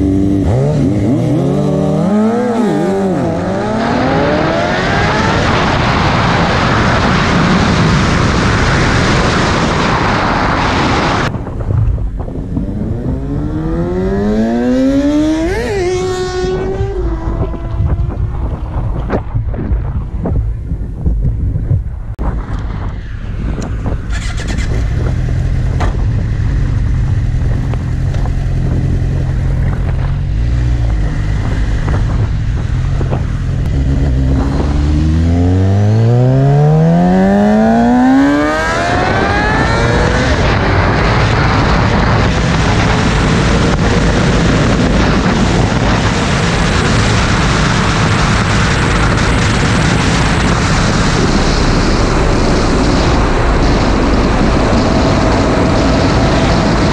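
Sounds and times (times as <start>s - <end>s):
motorcycle engine revving: 0.0s - 20.6s, 23.6s - 56.9s
wind noise on microphone: 0.0s - 56.9s.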